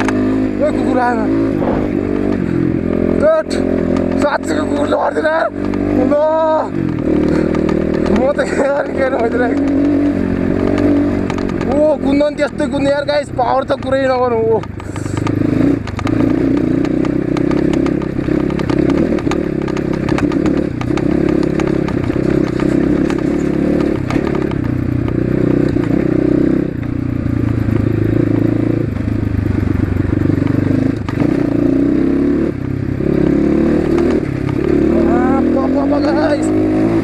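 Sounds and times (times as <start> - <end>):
sharp clicks and knocks: 0.0 - 0.3, 1.8 - 29.2, 29.8 - 35.6
dirt bike engine running: 0.0 - 37.0.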